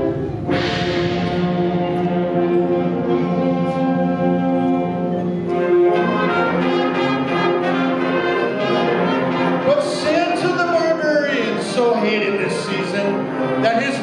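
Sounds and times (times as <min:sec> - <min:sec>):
percussion hits: 0:00.0 - 0:12.7
concert band playing brass chords: 0:00.0 - 0:14.0.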